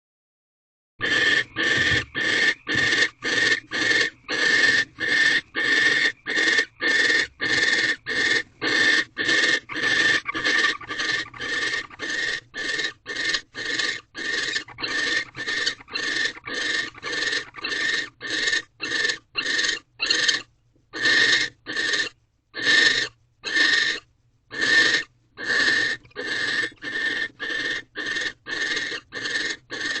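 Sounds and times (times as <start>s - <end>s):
owl rasping hissing calls: 1.0s - 30.0s.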